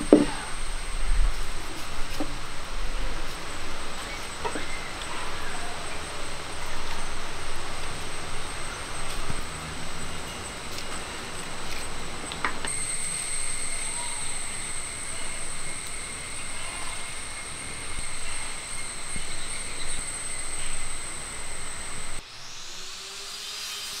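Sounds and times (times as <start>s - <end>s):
steady high-pitched whine: 0.0s - 24.0s.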